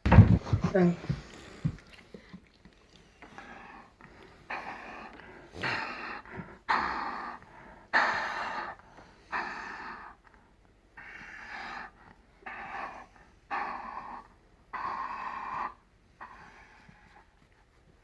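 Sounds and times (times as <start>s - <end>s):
dog panting: 0.4s - 18.0s.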